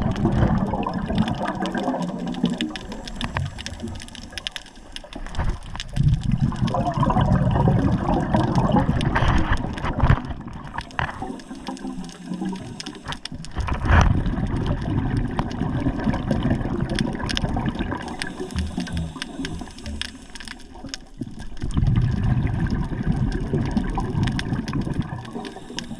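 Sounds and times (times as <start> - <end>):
water sloshing and splashing: 0.0 - 25.9.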